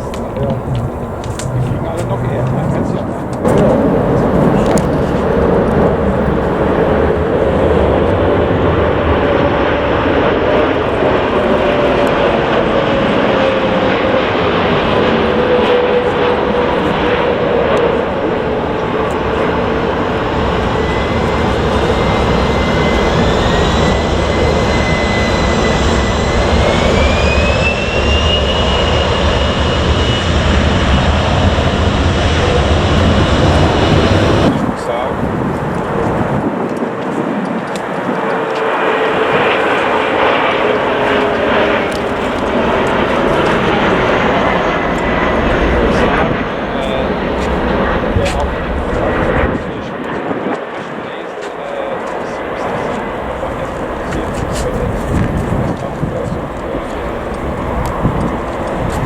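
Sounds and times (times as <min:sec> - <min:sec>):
high engine whine: 0:00.0 - 0:59.0
jet engines running: 0:00.0 - 0:59.0.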